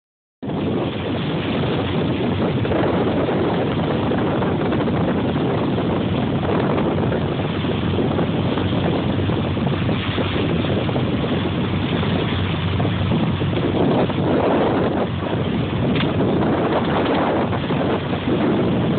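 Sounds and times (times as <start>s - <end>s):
boat engine running: 0.4s - 18.9s
wind rumbling on microphone: 0.4s - 18.9s.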